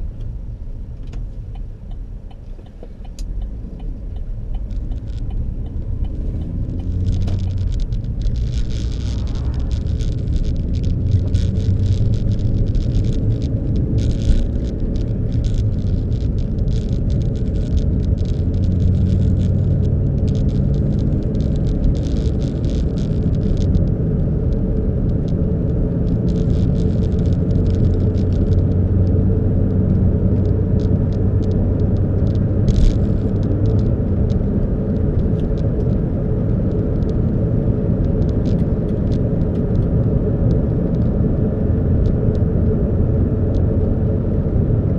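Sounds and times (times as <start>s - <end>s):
car engine and road rumble: 0.0s - 44.9s
low hum: 0.0s - 44.9s
short crackles and ticks: 1.1s - 42.7s.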